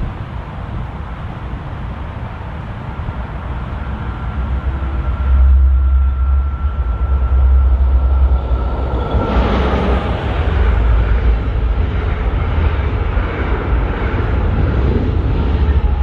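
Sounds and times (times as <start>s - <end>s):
train rumble: 0.0s - 16.0s
thin steady whine: 1.9s - 16.0s.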